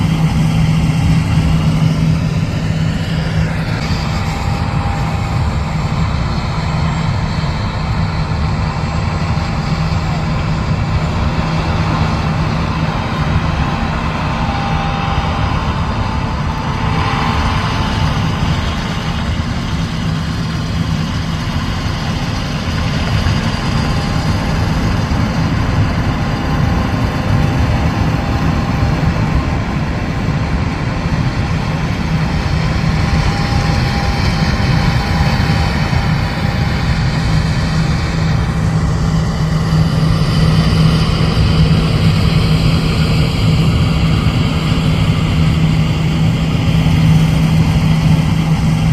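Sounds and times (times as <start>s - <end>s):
diesel machinery engine rumble: 0.0s - 48.9s.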